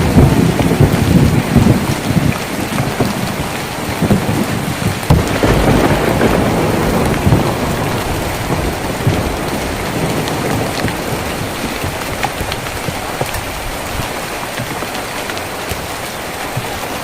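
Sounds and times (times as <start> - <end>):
heavy rain on a tin roof: 0.0 - 17.0
low thuds: 0.1 - 15.0.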